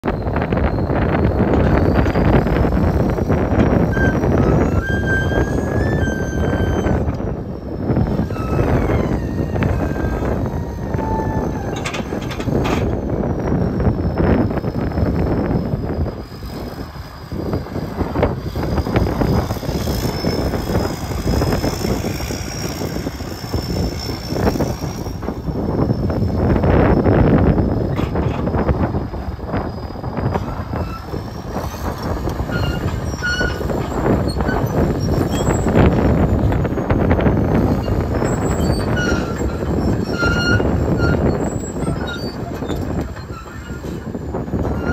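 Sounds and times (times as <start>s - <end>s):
excavator diesel engine running: 0.0s - 44.9s
high steady whine: 0.0s - 44.9s
undercarriage squealing: 0.1s - 44.9s.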